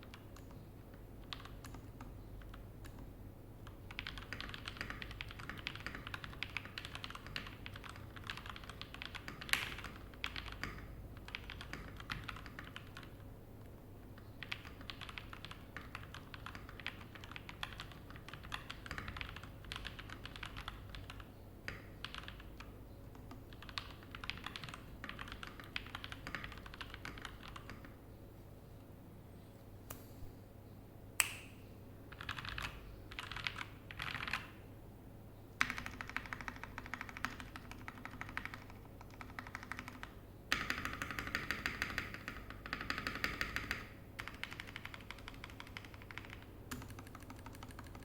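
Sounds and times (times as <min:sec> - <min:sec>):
keyboard typing: 0:00.0 - 0:13.2, 0:14.0 - 0:28.0, 0:32.1 - 0:34.6, 0:35.6 - 0:48.0.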